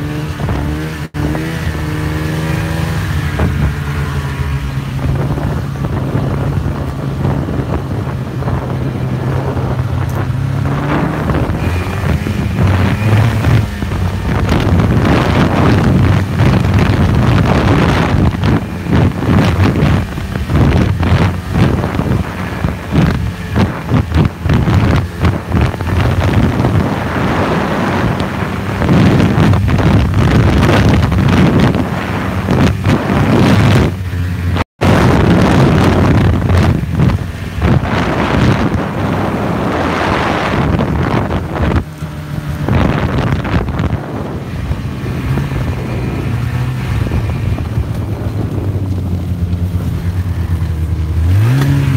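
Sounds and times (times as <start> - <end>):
snowmobile engine running: 0.0 - 51.9
wind buffeting microphone: 0.0 - 51.9.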